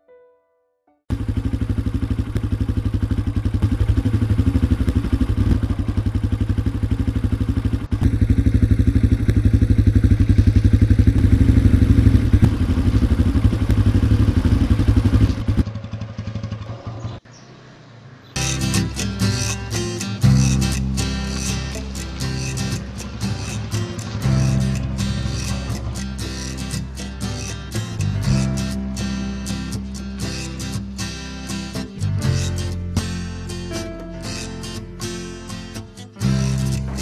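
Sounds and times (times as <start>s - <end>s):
motorcycle engine running: 1.1s - 17.2s, 18.4s - 37.0s.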